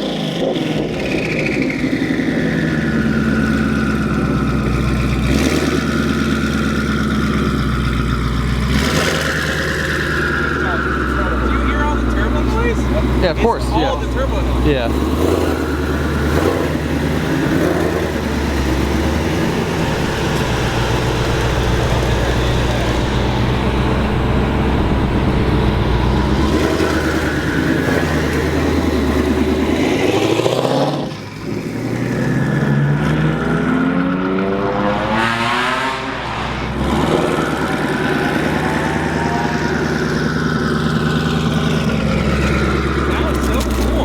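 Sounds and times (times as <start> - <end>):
car engine accelerating hard: 0.0 - 44.0.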